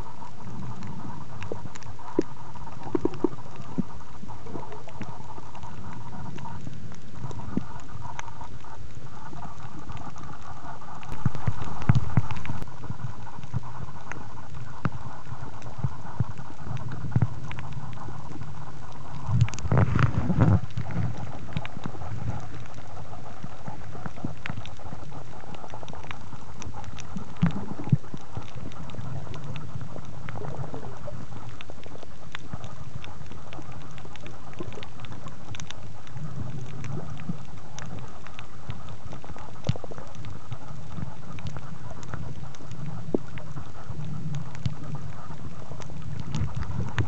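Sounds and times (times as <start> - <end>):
faint clicks: 0.0 - 47.0
muffled underwater wash: 0.0 - 47.0.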